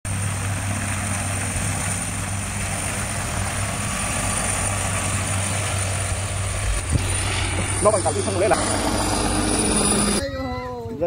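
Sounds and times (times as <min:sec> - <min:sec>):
helicopter rotor thudding: 0:00.1 - 0:10.2
helicopter high whine: 0:00.1 - 0:11.0.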